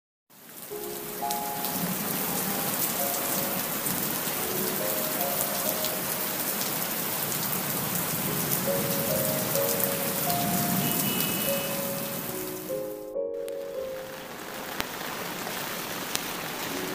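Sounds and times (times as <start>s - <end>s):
steady rain falling: 0.3s - 16.9s
soft musical notes: 0.6s - 7.0s, 7.7s - 15.0s, 16.4s - 16.9s.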